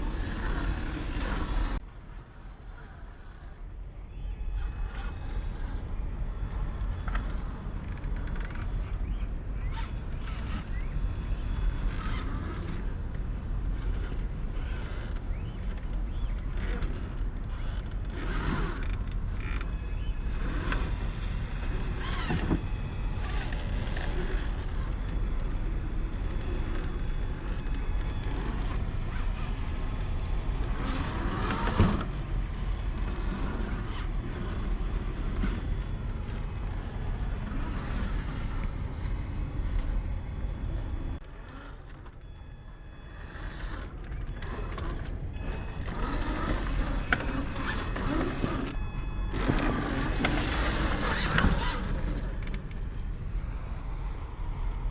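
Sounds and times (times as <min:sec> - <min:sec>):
rc motor whining and creaking: 0:00.0 - 0:01.8, 0:02.4 - 0:40.2, 0:40.9 - 0:52.8.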